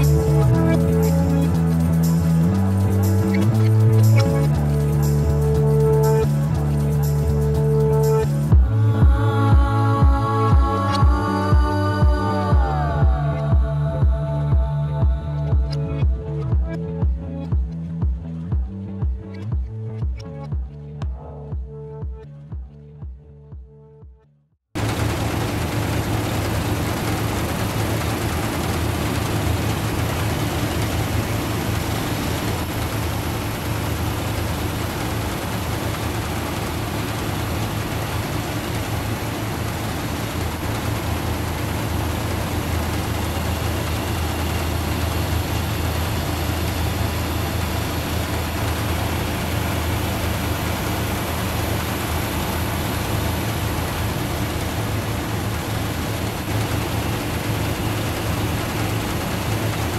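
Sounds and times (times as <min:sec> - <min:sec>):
rush of machinery noise: 0:00.0 - 0:14.9, 0:24.8 - 0:59.9
low engine hum: 0:00.0 - 0:24.1, 0:24.8 - 0:59.9.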